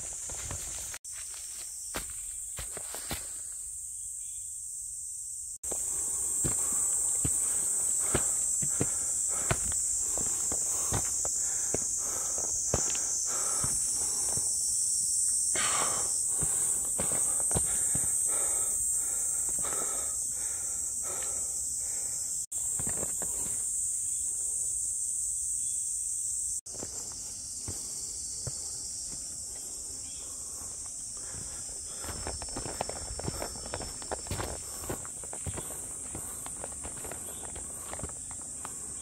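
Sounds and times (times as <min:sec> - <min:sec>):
footsteps on forest trail: 0:00.0 - 0:03.8, 0:05.6 - 0:23.9, 0:26.7 - 0:39.0
high-pitched insect chorus: 0:00.0 - 0:39.0.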